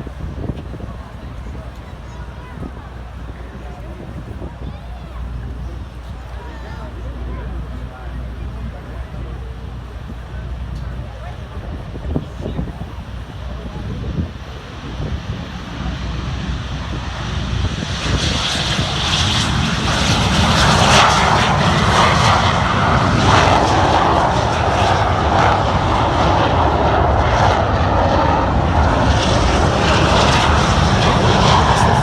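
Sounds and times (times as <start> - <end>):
jet engines roaring at takeoff: 0.0 - 32.0.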